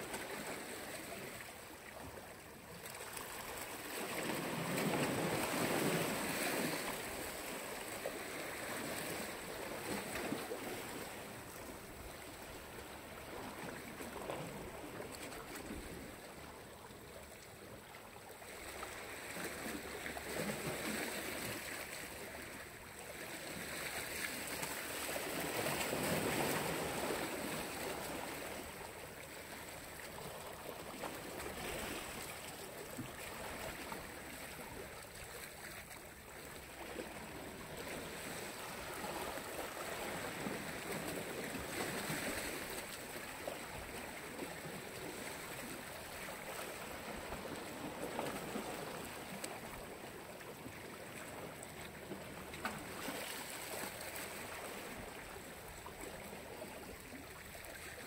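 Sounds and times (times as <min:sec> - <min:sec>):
waves washing onto shore: 0:00.0 - 0:16.4, 0:18.4 - 0:58.0.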